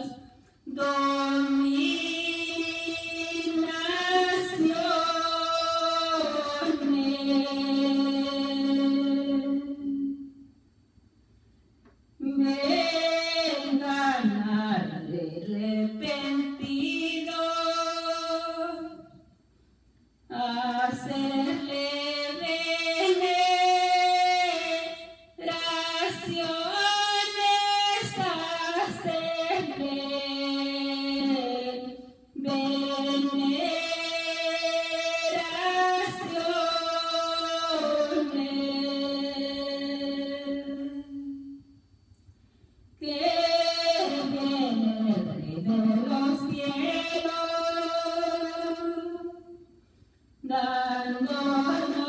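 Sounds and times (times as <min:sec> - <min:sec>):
woman singing unaccompanied: 0:00.0 - 0:10.3, 0:12.2 - 0:19.2, 0:20.3 - 0:41.7, 0:43.0 - 0:49.6, 0:50.4 - 0:52.0.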